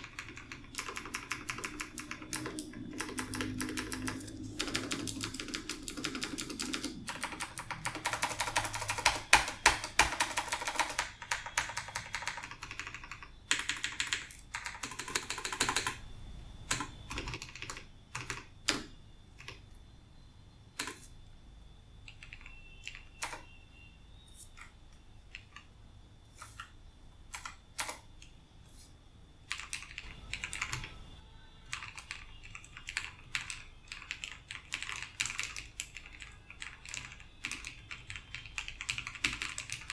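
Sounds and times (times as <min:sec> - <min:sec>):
clicky keyboard typing: 0:00.0 - 0:19.7, 0:20.8 - 0:21.1, 0:22.0 - 0:23.5, 0:24.6 - 0:25.7, 0:27.3 - 0:28.4, 0:29.5 - 0:39.9.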